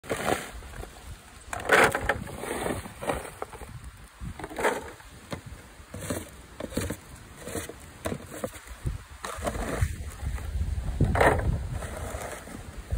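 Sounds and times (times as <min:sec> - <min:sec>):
scoop scraping plastic tarp: 0:00.0 - 0:03.8, 0:04.4 - 0:05.2, 0:05.9 - 0:12.9.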